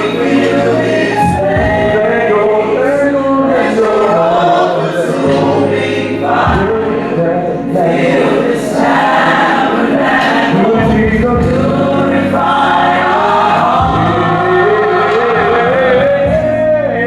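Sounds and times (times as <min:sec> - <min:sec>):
choir singing gospel song: 0:00.0 - 0:17.0.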